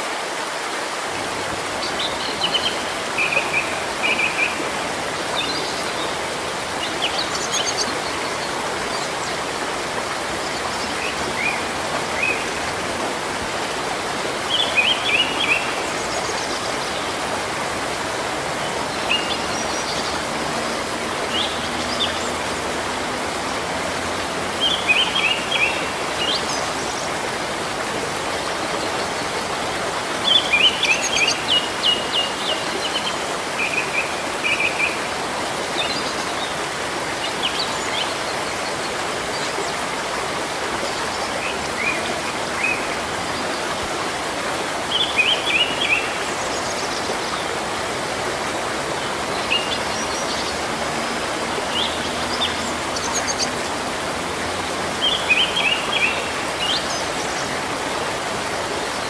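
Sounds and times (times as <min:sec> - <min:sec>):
rain hiss: 0:00.0 - 0:59.0.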